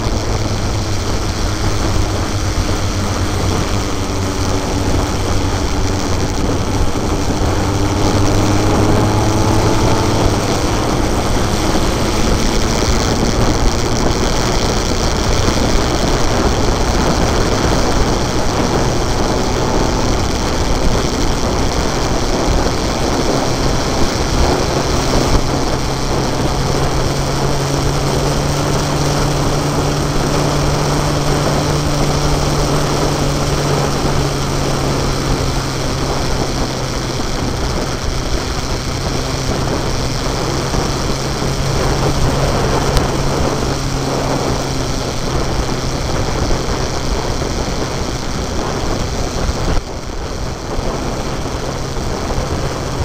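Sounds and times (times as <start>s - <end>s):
motorcycle engine running: 0.0s - 53.0s
wind rush on microphone: 0.0s - 53.0s.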